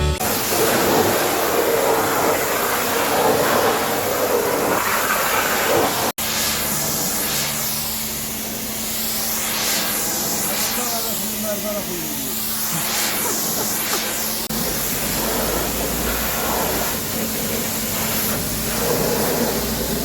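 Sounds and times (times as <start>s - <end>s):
pressure washer spraying water: 0.0s - 20.0s.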